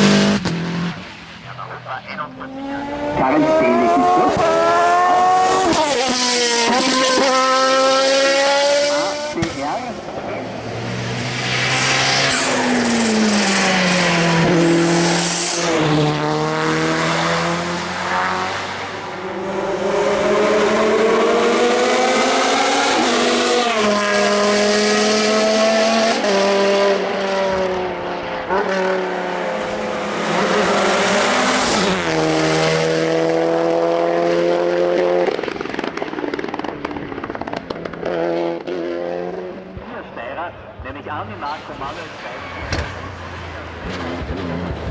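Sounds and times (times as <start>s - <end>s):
race car engine revving: 0.0s - 39.9s, 41.4s - 44.9s.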